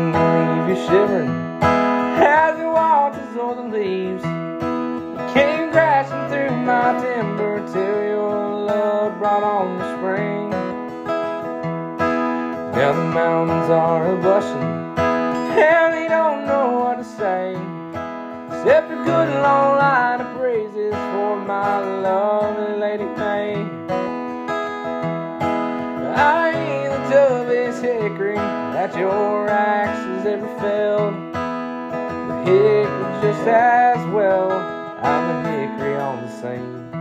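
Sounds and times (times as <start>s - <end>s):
bending lead guitar melody: 0.0s - 37.0s
strummed acoustic guitar: 0.0s - 37.0s.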